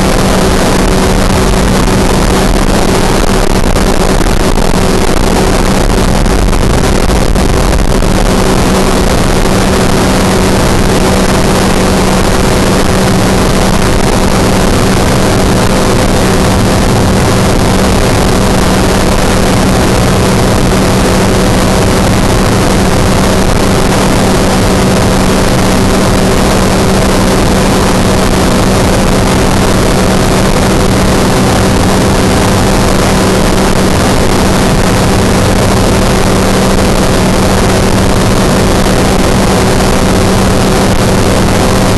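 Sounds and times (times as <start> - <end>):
light aircraft engine and propeller: 0.0 - 41.9.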